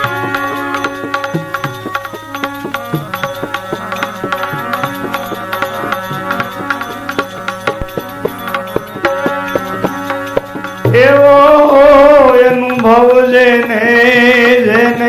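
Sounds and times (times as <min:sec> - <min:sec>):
sustained melodic tones: 0:00.0 - 0:15.0
tabla drumming: 0:00.0 - 0:15.0.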